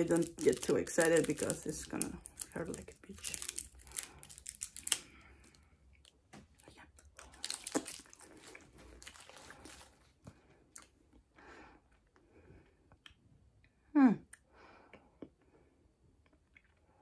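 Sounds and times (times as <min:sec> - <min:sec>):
chewing and crunching hard candy: 0:00.0 - 0:13.7, 0:14.3 - 0:17.0.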